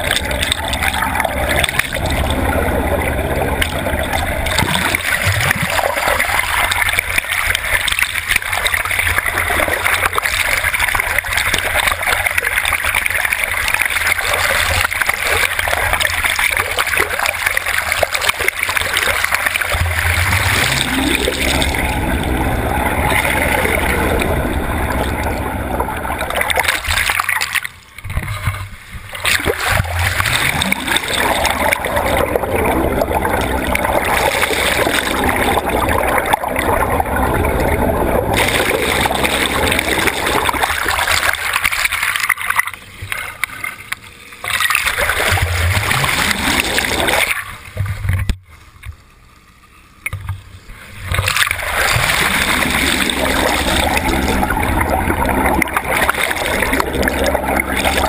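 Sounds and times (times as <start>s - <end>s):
boat motor running: 0.0s - 58.0s
water rushing and splashing: 0.0s - 58.0s.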